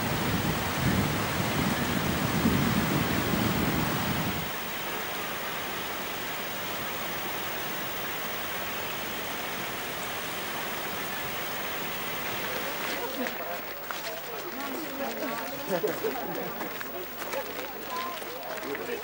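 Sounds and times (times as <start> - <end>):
rushing river: 0.0 - 19.0
steady even hiss: 0.0 - 19.0.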